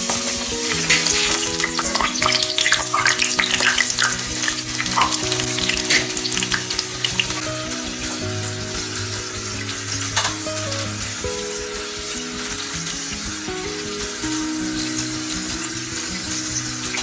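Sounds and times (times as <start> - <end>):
background music: 0.0 - 17.0
hot oil sizzling and popping: 0.0 - 17.0.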